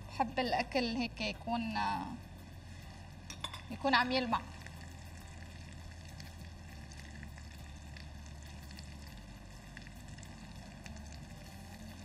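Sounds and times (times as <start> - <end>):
rice sizzling in a pan: 0.3 - 12.0.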